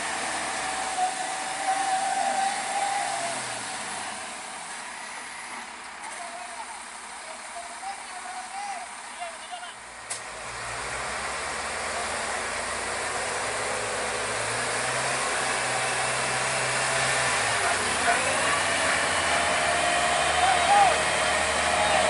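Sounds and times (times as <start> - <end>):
diesel truck engines under load: 0.0 - 22.0.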